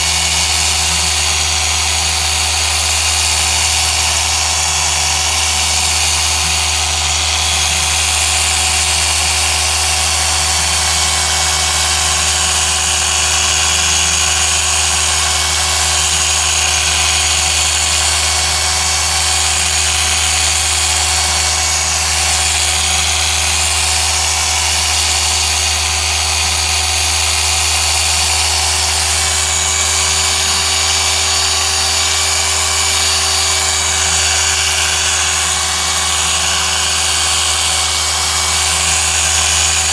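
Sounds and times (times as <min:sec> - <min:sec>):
polisher motor running: 0:00.0 - 0:39.9.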